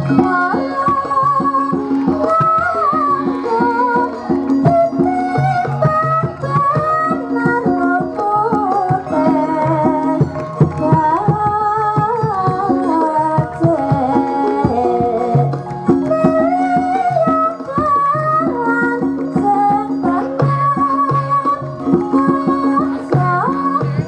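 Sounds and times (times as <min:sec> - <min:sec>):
women singing wavering melody: 0:00.0 - 0:24.0.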